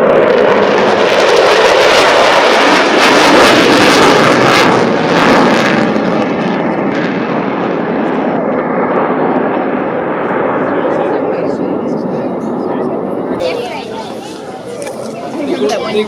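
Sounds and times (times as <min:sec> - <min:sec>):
fighter jets flying past: 0:00.0 - 0:16.0.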